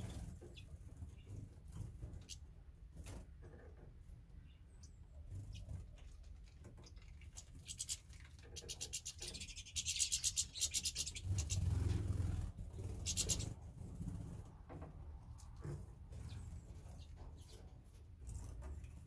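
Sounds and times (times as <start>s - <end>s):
songbirds rattling chatter: 0.0s - 19.0s.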